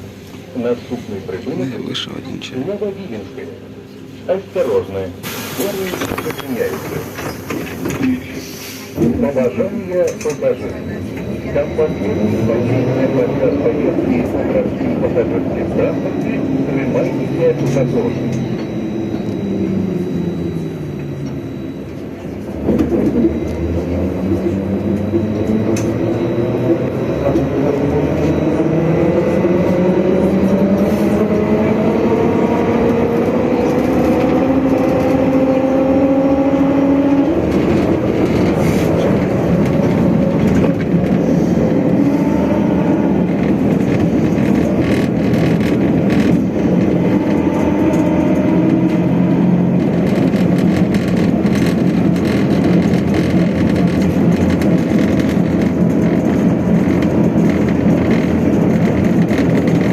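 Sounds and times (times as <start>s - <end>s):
road rumble: 0.0s - 59.9s
trolleybus electric drive whining: 0.0s - 59.9s.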